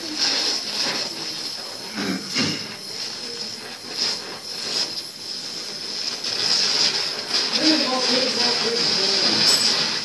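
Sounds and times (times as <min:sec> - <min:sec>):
torch flame hissing: 0:00.0 - 0:10.0.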